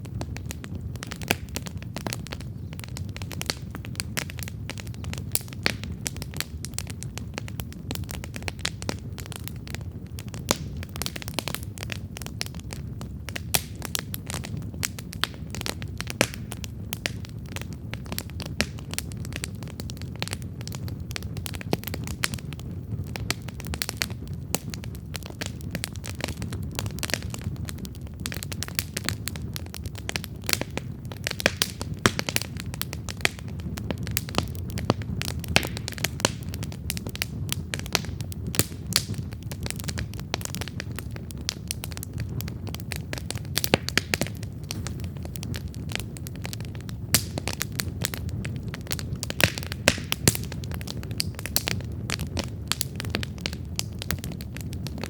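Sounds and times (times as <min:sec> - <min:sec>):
campfire flames rumbling: 0:00.0 - 0:55.0
wood crackling and popping: 0:00.0 - 0:55.0.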